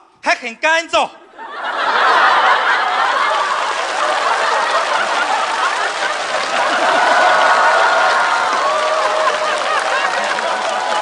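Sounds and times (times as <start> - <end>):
audience laughing: 1.2 - 11.0
audience applauding: 1.8 - 11.0.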